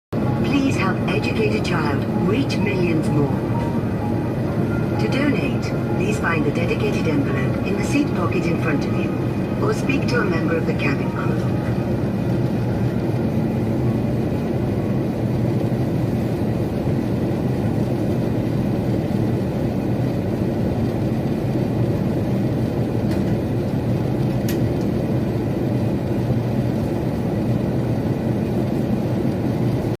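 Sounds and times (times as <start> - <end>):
airliner cabin engine drone: 0.1 - 30.0.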